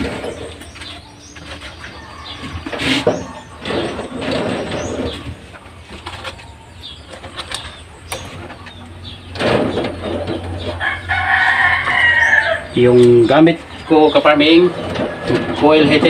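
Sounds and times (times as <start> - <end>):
rustling: 0.0 - 13.8
birds calling: 0.0 - 16.0.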